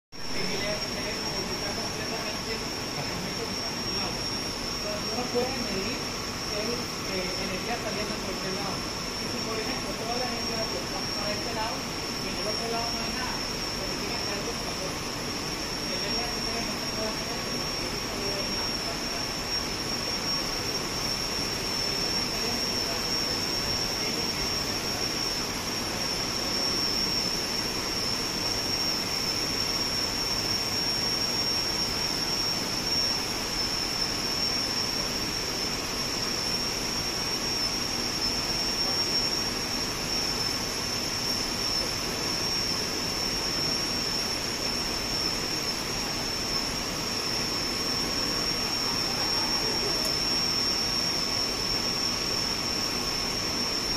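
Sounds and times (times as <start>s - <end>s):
ventilation rushing noise: 0.1s - 53.9s
high-pitched whine: 0.2s - 53.9s.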